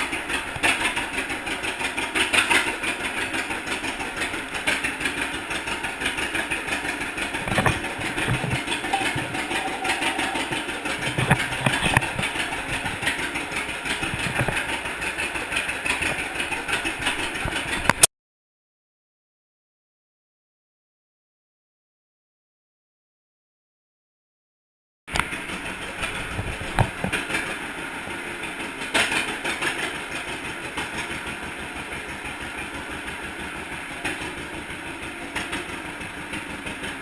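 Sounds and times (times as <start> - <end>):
tractor engine pulsing: 0.0 - 18.1, 25.1 - 37.0.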